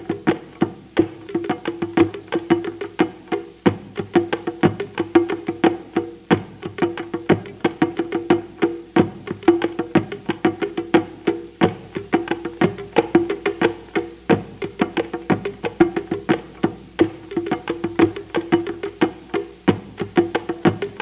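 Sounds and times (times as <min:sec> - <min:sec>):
fast percussion strikes: 0:00.0 - 0:21.0.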